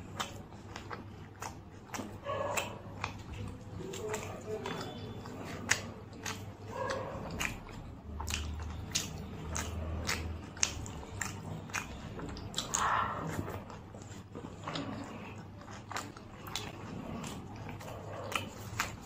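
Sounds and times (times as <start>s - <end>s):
mouth clicks: 0.0s - 19.0s
person chewing and lip-smacking: 0.0s - 19.0s.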